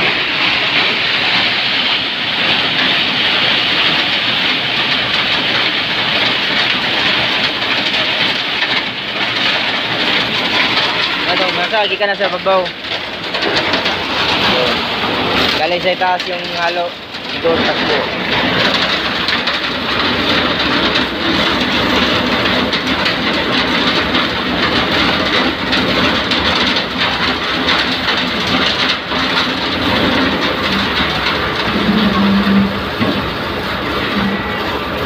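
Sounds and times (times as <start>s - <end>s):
conveyor rumbling and clattering: 0.0s - 35.0s
wheel loader diesel engine: 0.0s - 35.0s.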